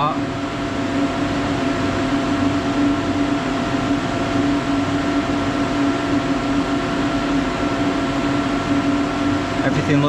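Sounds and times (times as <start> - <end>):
machine hum with low drone: 0.0 - 10.0.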